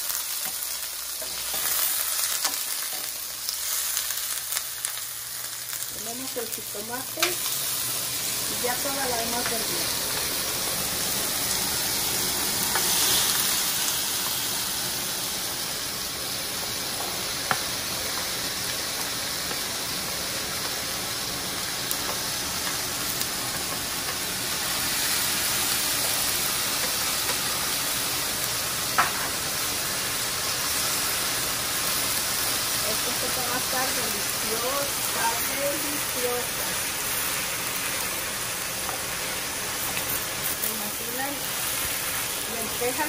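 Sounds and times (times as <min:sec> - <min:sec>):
vegetables sizzling in a pan: 0:00.0 - 0:43.0.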